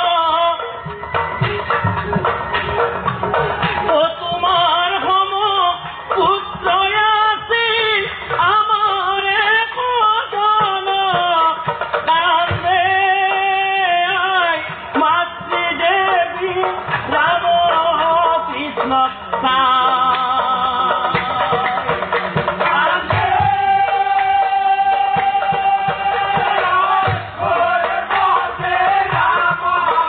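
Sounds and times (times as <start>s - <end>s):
man singing devotional song: 0.0s - 0.9s, 3.8s - 30.0s
drum beats: 0.0s - 30.0s.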